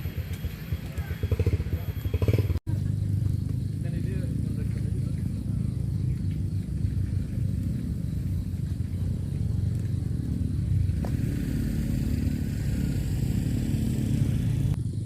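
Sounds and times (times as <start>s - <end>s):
motorbike engine running: 0.0s - 15.0s
road traffic rumble: 0.0s - 15.0s.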